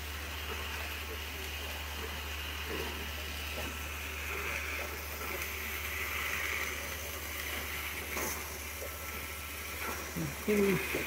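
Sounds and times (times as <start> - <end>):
machine humming and whirring: 0.0 - 11.0.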